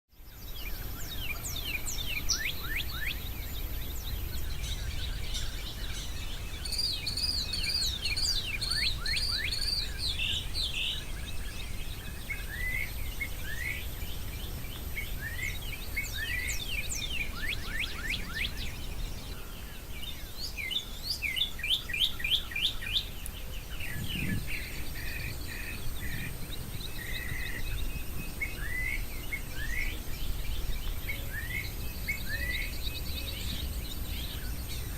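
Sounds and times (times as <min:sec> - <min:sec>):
wild birds singing: 0:00.1 - 0:34.9.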